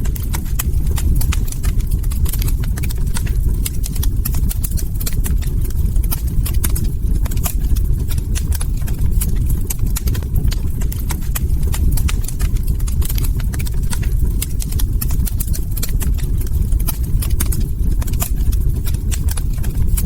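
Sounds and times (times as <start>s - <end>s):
log fire crackling and popping: 0.0s - 20.0s.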